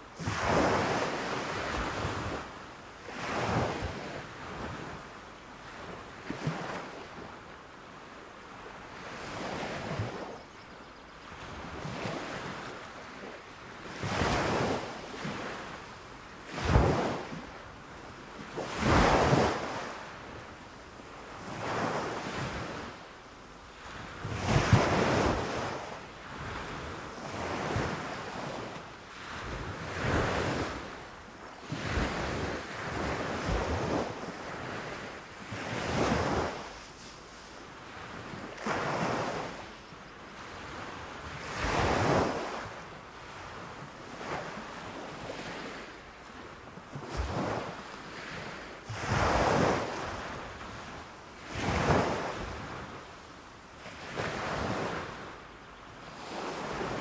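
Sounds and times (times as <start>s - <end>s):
small waves breaking on shore: 0.0s - 10.5s, 11.2s - 23.1s, 23.7s - 57.0s.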